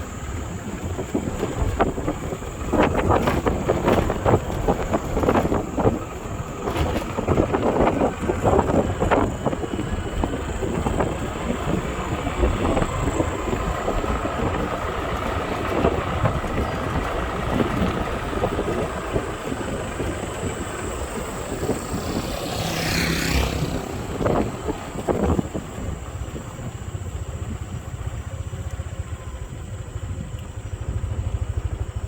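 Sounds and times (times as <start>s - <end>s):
vehicle running: 0.0s - 32.0s
wind rumbling on microphone: 0.0s - 32.0s.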